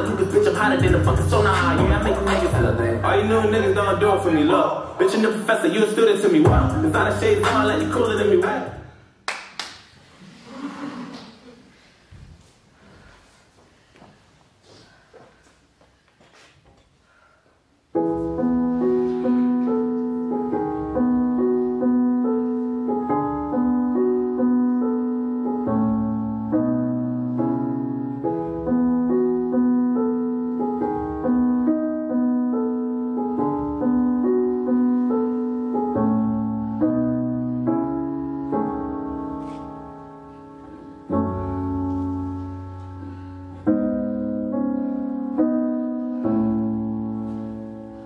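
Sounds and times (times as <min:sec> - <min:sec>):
piano music: 0:00.0 - 0:08.8, 0:17.9 - 0:48.0.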